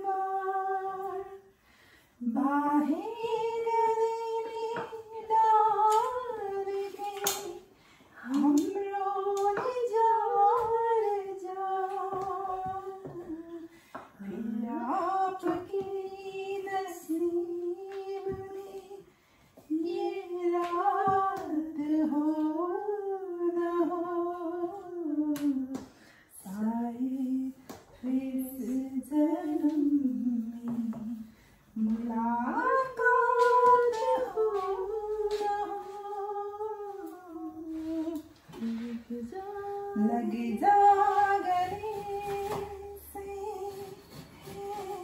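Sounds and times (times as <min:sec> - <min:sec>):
woman singing unaccompanied: 0:00.0 - 0:01.5, 0:02.2 - 0:45.0.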